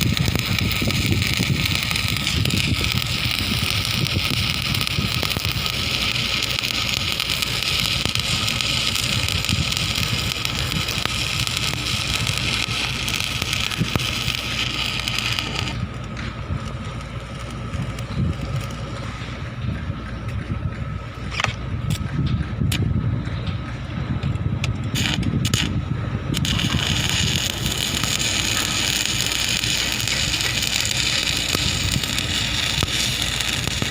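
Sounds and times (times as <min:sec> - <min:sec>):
welding arc crackling and hissing: 0:00.0 - 0:19.6, 0:21.2 - 0:33.9
low rumble: 0:00.0 - 0:33.9.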